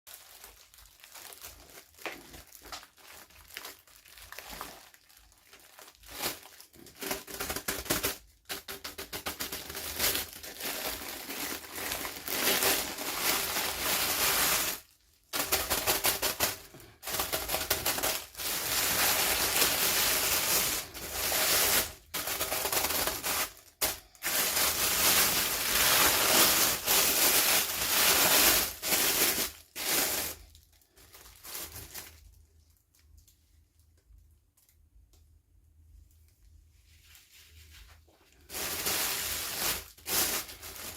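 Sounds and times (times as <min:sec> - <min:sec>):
plastic packaging crinkling and tearing: 0:00.1 - 0:33.4, 0:38.3 - 0:40.9.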